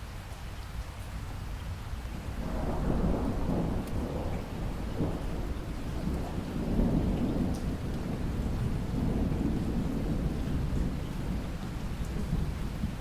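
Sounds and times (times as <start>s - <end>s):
steady rain: 0.0s - 13.0s
rolling thunder: 2.3s - 13.0s.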